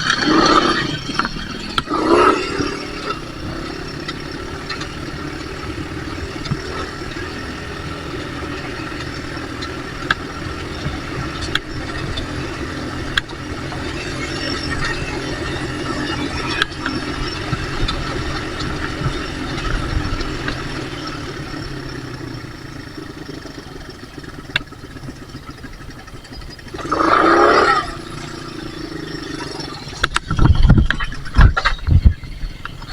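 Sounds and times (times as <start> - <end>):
small off-road engine revving: 0.0 - 32.9.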